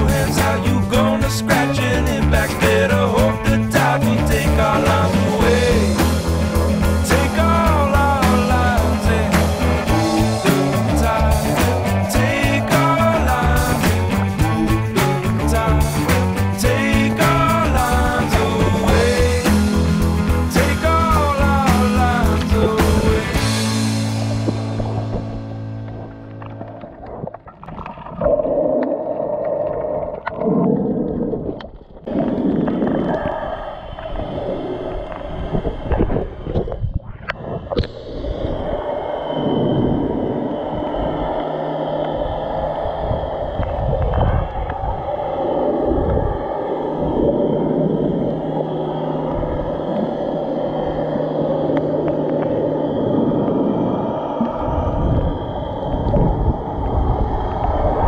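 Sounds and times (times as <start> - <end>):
underwater rushing and gurgling water: 0.0 - 58.0.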